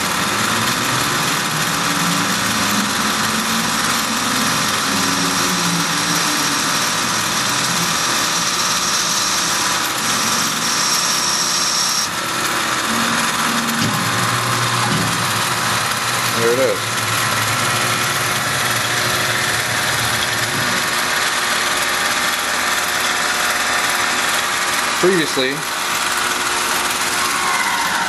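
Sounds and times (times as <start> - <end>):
milling machine running: 0.0 - 28.0.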